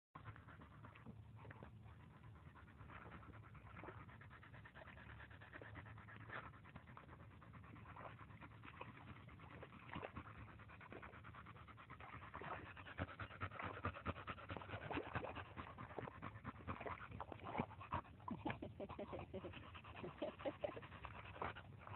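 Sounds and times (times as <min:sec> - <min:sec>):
dog panting: 0:00.2 - 0:21.9.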